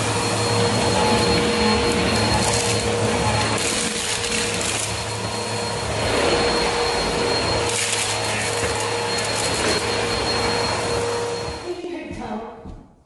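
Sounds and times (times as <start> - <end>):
vacuum cleaner running: 0.0 - 12.8.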